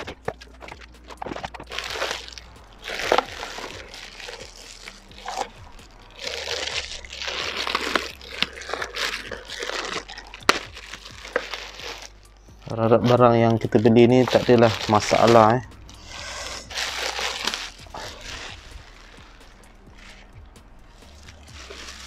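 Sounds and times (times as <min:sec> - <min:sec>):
packaging crinkling and rustling: 0:00.0 - 0:20.3, 0:21.0 - 0:22.0.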